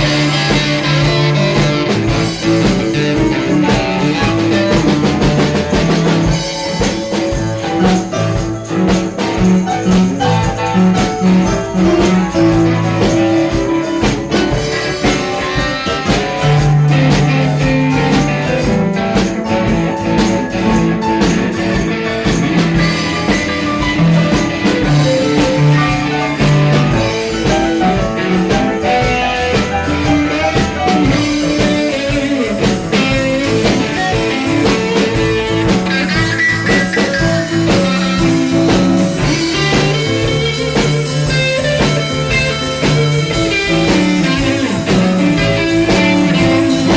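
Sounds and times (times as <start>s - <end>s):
drum kit: 0.0s - 46.9s
electric guitar: 0.0s - 46.9s
live blues-rock band: 0.0s - 46.9s.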